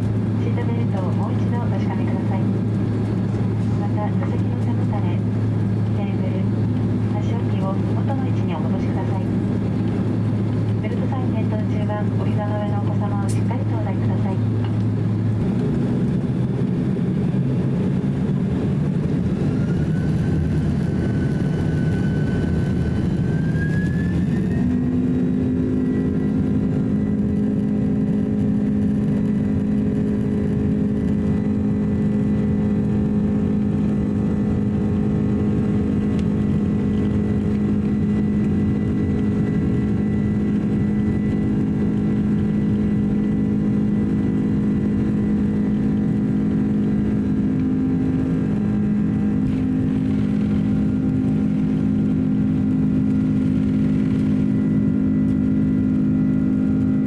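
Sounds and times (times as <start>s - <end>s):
jet engines whining and droning: 0.0s - 57.0s
takeoff roll rumble: 0.0s - 57.0s.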